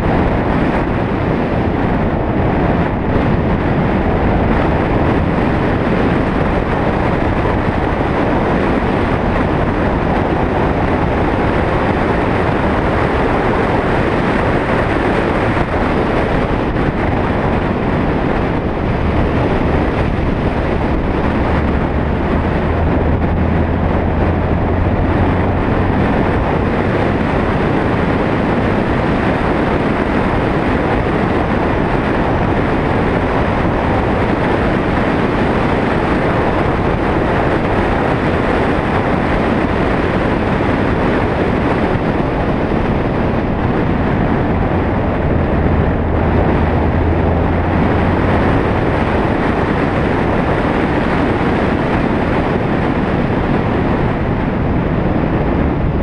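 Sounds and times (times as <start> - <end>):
low engine hum: 0.0 - 56.0
road and wind noise: 0.0 - 56.0.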